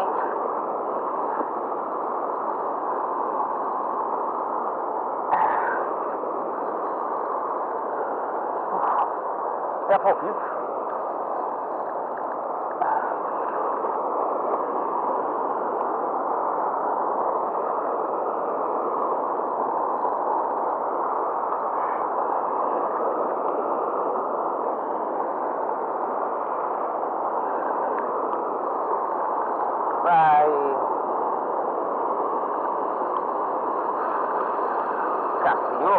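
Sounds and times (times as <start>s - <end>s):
river water rushing over weir: 0.0s - 35.9s.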